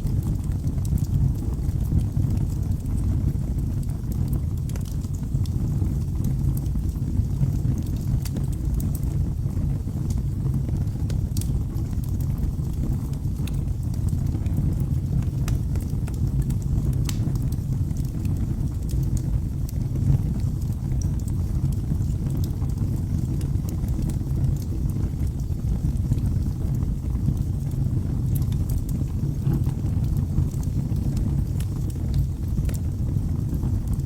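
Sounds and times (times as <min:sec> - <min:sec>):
crackling burning wood: 0:00.0 - 0:34.0
low rumble of flames: 0:00.0 - 0:34.0.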